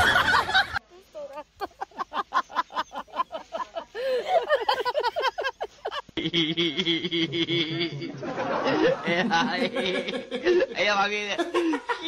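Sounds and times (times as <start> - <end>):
person laughing: 0.0 - 10.8, 11.4 - 12.0.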